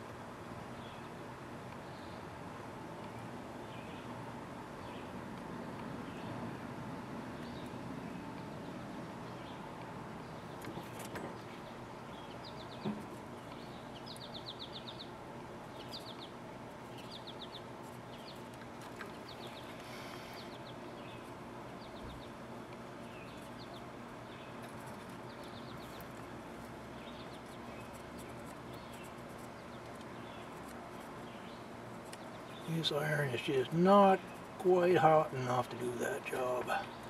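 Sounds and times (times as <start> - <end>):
steady low background noise: 0.0 - 37.0.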